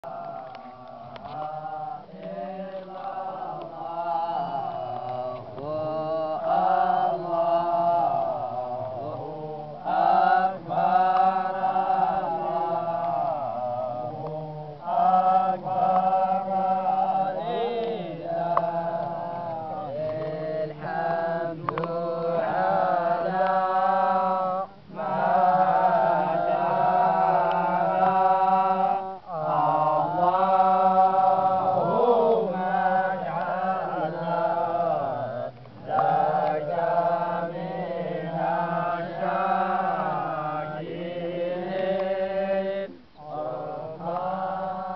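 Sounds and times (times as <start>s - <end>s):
men chanting in unison: 0.0s - 44.9s.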